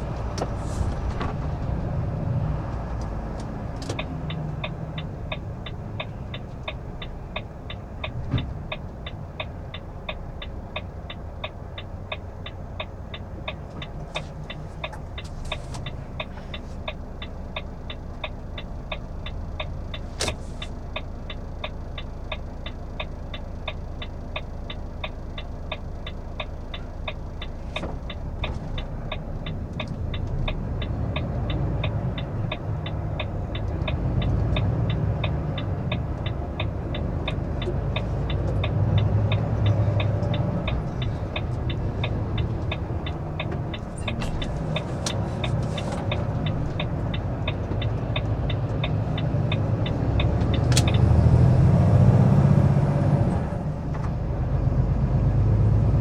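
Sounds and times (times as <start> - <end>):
diesel truck engine pulling away: 0.0 - 17.2, 18.0 - 56.0
turn-signal relay ticking: 2.6 - 51.2.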